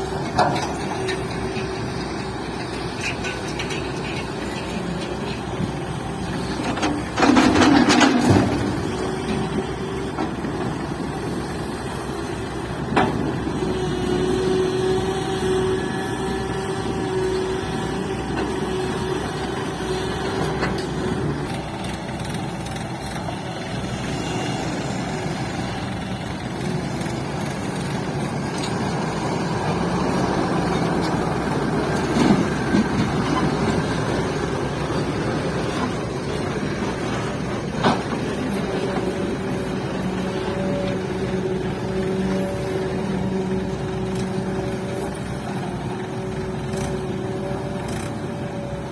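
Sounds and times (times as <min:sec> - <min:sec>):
excavator engine and hydraulics: 0:00.0 - 0:48.9.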